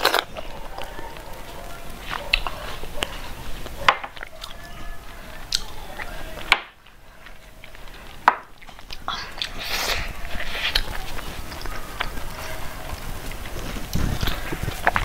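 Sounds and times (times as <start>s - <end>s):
chewing and swallowing: 0.0s - 15.0s.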